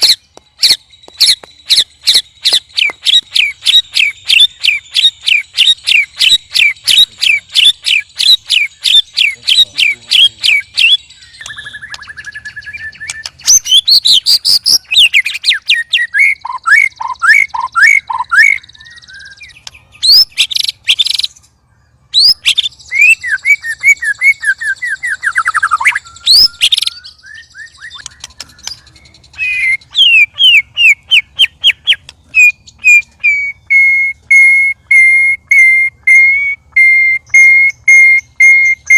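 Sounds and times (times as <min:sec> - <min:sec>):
birds singing sharp chirps: 0:00.0 - 0:38.9.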